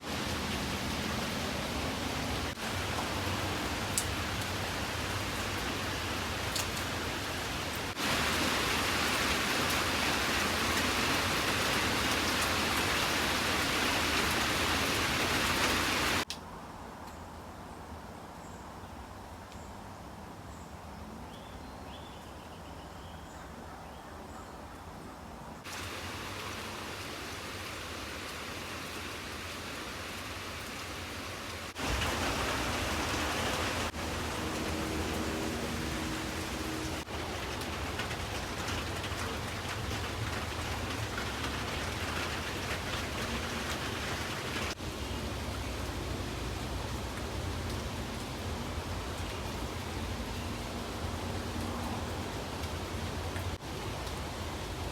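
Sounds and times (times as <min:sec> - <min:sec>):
steady rain falling: 0:00.0 - 0:18.5, 0:25.6 - 0:54.9.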